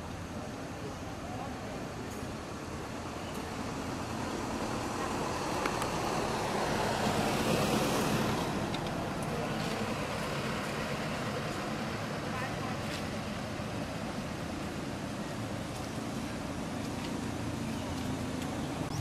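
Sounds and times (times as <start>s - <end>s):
road vehicle passing: 0.0s - 19.0s.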